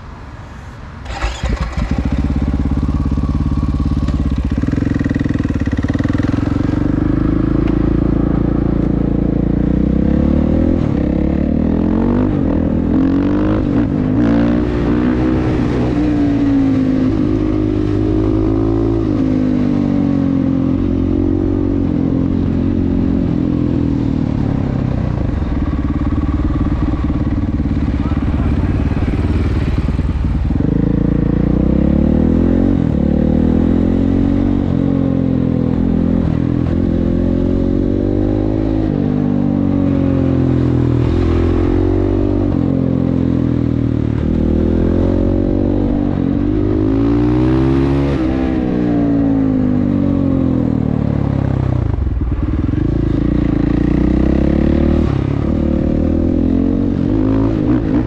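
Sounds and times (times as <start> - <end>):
motorcycle engine revving: 1.0 - 58.0.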